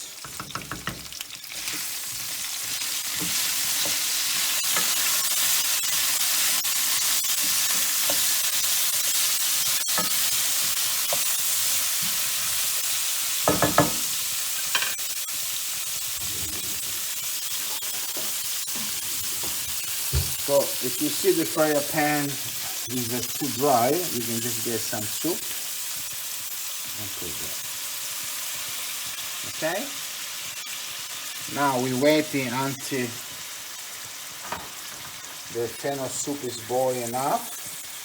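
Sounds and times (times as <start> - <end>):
stew sizzling in frying pan: 0.0 - 38.0.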